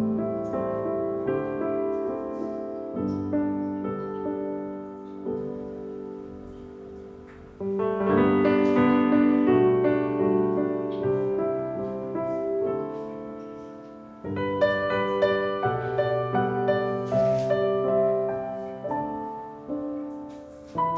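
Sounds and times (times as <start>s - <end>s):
soft piano chords: 0.0s - 20.9s.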